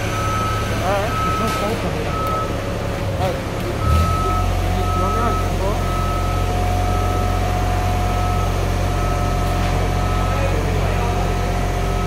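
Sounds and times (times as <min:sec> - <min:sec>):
engine rumbling with whine: 0:00.0 - 0:12.0.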